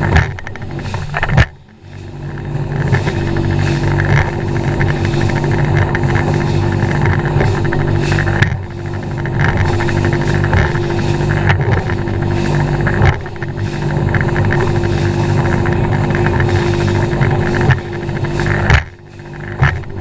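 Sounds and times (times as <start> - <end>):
hull slapping waves: 0.0 - 20.0
outboard motor running: 0.0 - 20.0.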